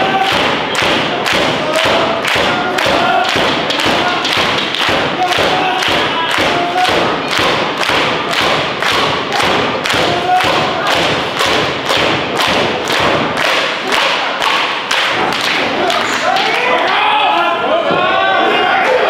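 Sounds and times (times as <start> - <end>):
audience clapping in unison: 0.0 - 17.0.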